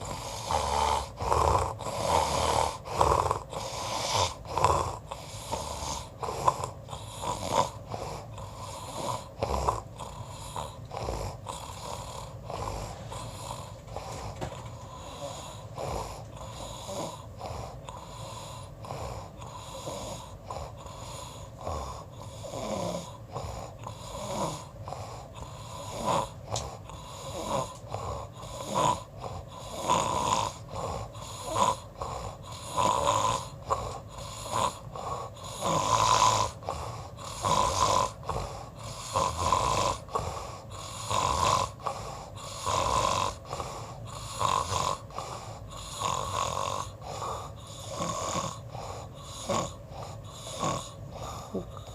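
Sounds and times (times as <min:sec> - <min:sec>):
person snoring: 0:00.0 - 0:51.9.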